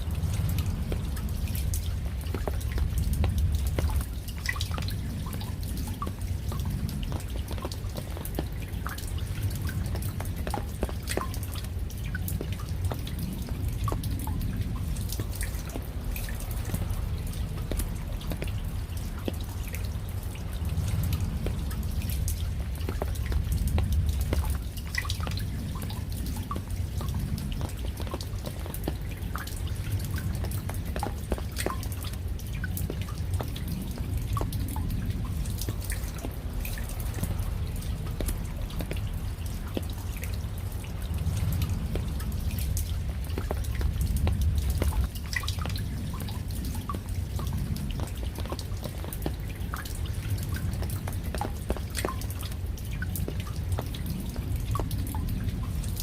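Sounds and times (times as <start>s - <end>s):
raindrops dripping: 0.0s - 56.0s
steady low rumble: 0.0s - 56.0s.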